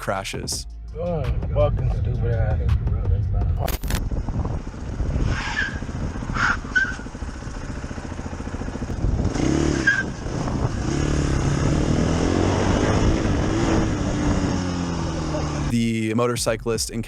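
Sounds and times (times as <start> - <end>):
motorcycle engine accelerating: 1.5 - 15.7
road noise: 1.6 - 17.0.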